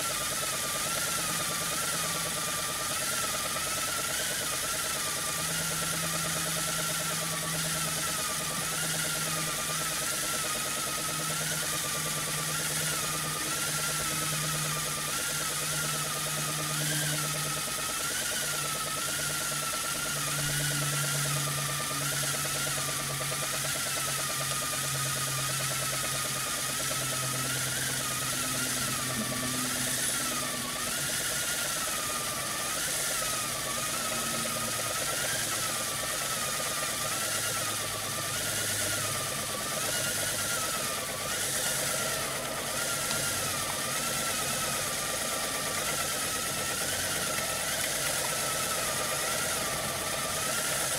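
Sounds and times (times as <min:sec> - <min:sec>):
steam hissing with high whistle: 0:00.0 - 0:50.9.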